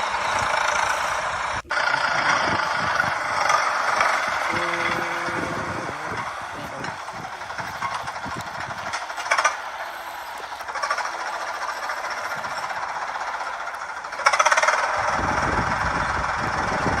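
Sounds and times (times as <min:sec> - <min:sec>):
tractor engine clattering: 0:00.0 - 0:17.0.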